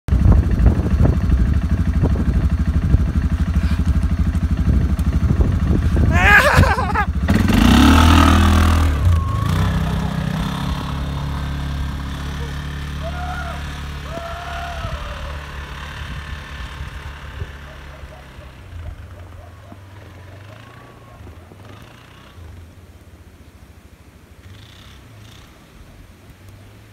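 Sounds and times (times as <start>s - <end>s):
engine running with low throb: 0.1s - 26.9s.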